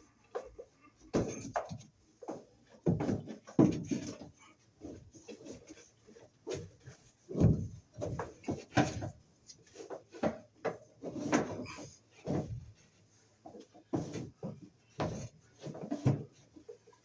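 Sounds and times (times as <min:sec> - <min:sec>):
cable knocking and scraping in wall: 0:00.0 - 0:17.0.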